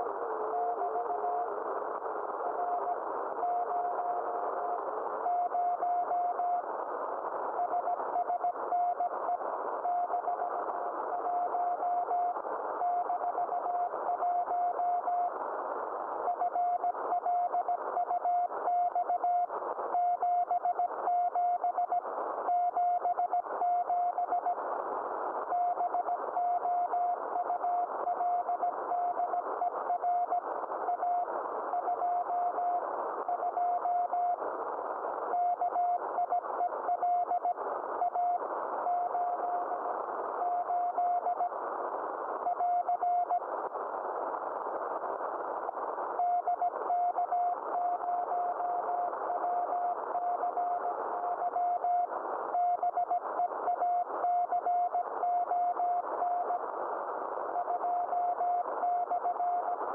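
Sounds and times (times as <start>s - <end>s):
radio band noise hiss: 0.0s - 59.9s.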